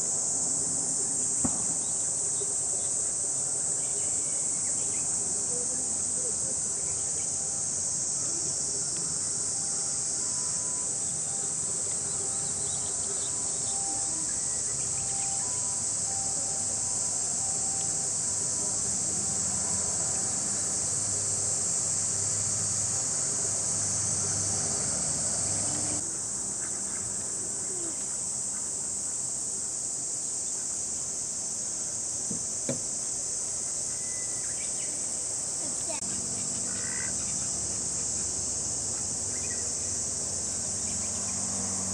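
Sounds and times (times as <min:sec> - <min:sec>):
cicadas shrilling: 0:00.0 - 0:41.9.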